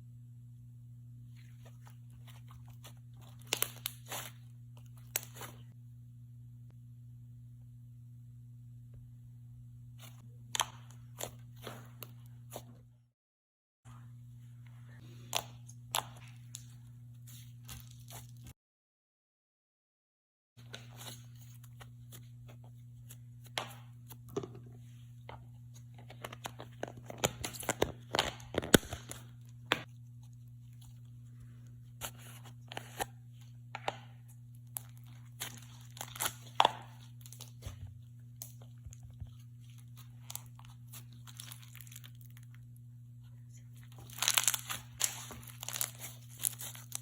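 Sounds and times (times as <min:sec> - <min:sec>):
steady low hum: 0:00.0 - 0:13.1, 0:13.9 - 0:18.5, 0:20.6 - 0:47.0.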